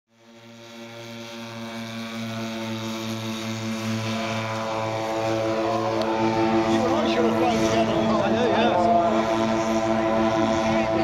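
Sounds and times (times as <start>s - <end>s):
model plane propellers humming: 0.1s - 11.0s.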